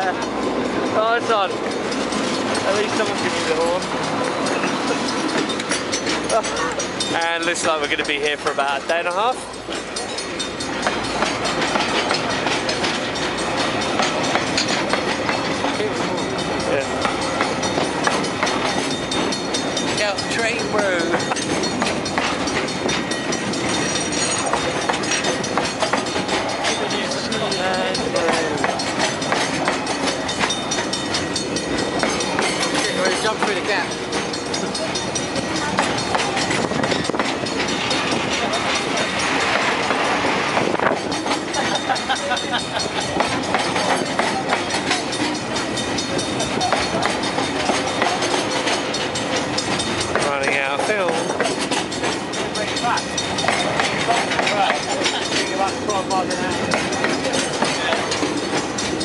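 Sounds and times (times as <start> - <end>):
train wheels rumbling on rail: 0.0 - 59.0
wagons knocking and clanking: 0.0 - 59.0.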